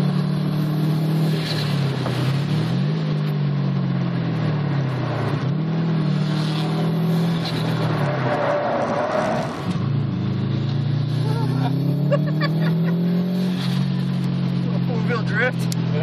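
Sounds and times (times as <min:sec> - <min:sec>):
car engine revving: 0:00.0 - 0:16.0
wind and road noise: 0:00.0 - 0:16.0.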